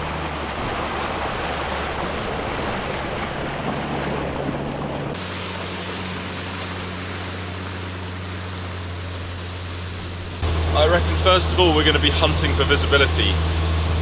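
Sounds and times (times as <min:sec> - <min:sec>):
boat engine running: 0:00.0 - 0:14.0
water splashing along hull: 0:00.0 - 0:14.0.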